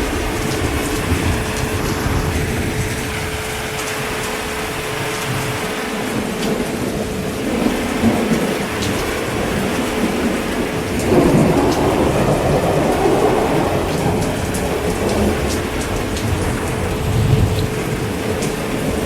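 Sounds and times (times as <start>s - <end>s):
rolling thunder rumble: 0.0s - 19.0s
steady heavy rain: 0.0s - 19.0s.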